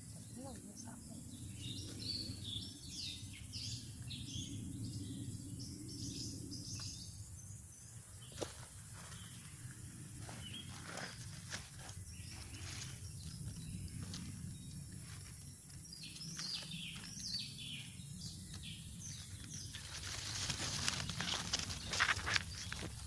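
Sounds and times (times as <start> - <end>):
birds chirping and singing: 0.0 - 23.0.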